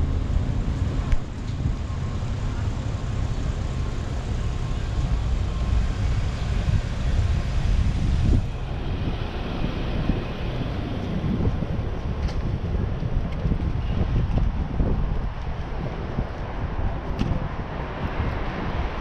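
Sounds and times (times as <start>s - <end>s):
passing traffic rumble: 0.0s - 19.0s.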